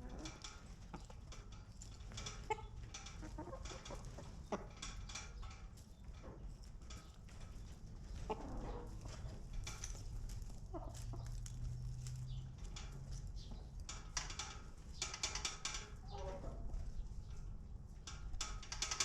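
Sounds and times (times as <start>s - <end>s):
chickens clucking: 0.0s - 18.4s
small clicks and rustles: 0.0s - 19.0s.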